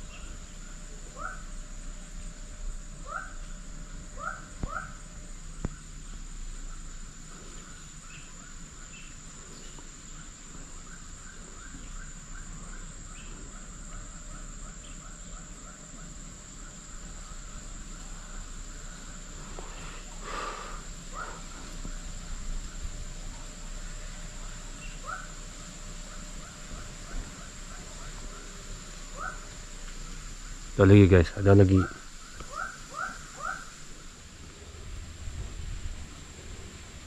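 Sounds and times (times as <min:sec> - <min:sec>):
high-pitched insect drone: 0:00.0 - 0:37.0.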